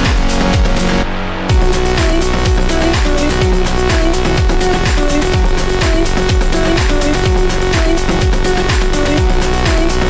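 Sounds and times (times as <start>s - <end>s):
electronic dance music: 0.0s - 10.0s
steady kick drum: 0.0s - 10.0s.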